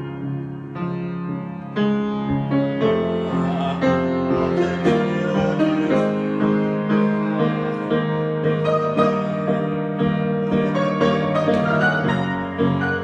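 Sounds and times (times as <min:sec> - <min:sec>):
solo piano improvisation: 0:00.0 - 0:13.0.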